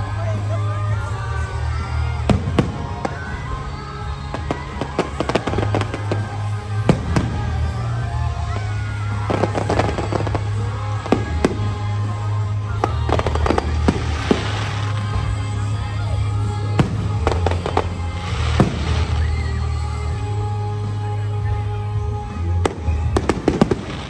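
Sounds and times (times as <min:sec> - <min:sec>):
fireworks bursting and crackling: 0:00.0 - 0:24.0
show music with heavy bass: 0:00.0 - 0:24.0.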